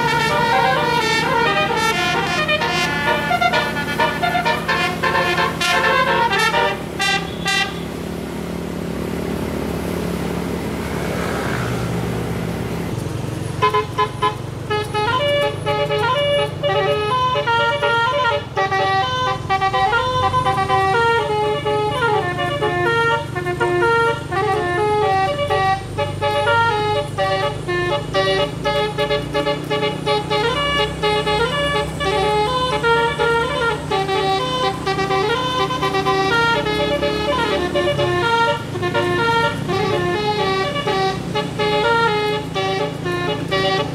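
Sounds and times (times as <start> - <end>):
bus engine running: 0.0 - 43.9
multi-tone bus horn melody: 0.0 - 43.9.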